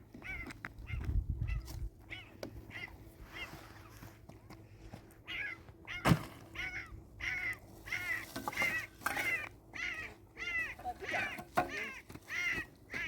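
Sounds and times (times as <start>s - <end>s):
birds calling harshly: 0.1s - 4.0s, 5.2s - 13.0s.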